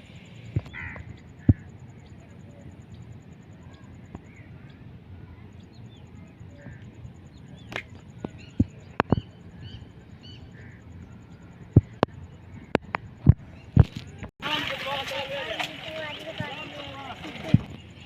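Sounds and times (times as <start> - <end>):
birds chirping: 0.0 - 18.0
low background hum: 0.0 - 18.0.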